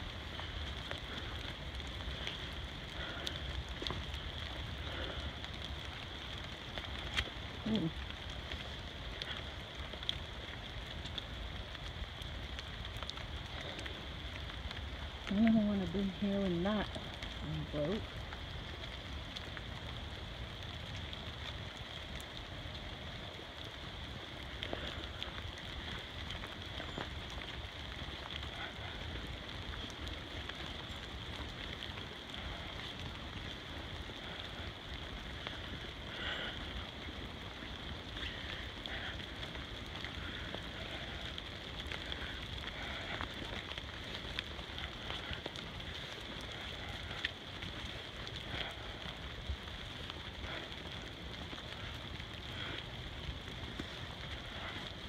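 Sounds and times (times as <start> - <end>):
footsteps on muddy trail: 0.0 - 55.0
rain falling in forest: 0.0 - 55.0.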